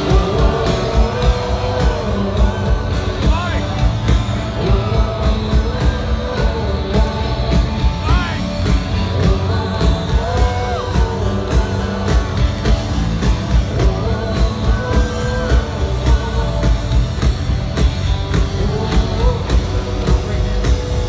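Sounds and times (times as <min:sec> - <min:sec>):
person singing: 0:00.0 - 0:03.8, 0:04.4 - 0:21.0
drums keeping a steady beat: 0:00.0 - 0:21.0
live rock band: 0:00.0 - 0:21.0.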